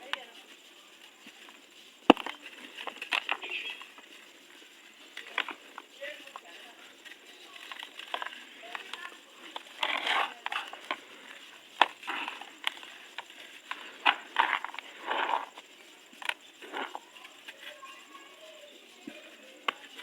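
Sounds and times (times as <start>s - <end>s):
dry material crunching: 0.0s - 20.0s.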